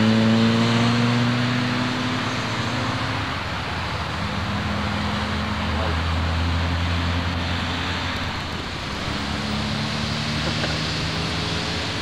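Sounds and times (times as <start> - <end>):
rushing road traffic: 0.0 - 12.0.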